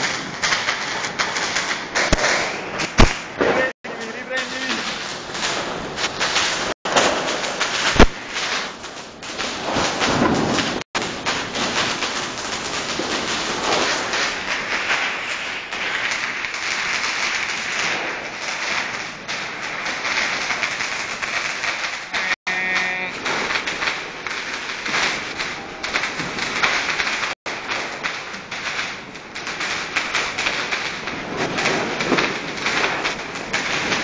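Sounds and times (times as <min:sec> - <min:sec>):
firework bang: 0:00.0 - 0:34.0
fireworks crackling and hissing: 0:00.0 - 0:34.0.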